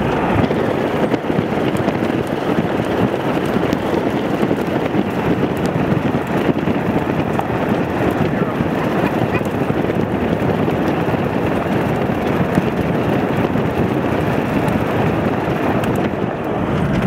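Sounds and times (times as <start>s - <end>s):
tyre and road noise: 0.0s - 17.0s
wind rush on microphone: 0.0s - 17.0s.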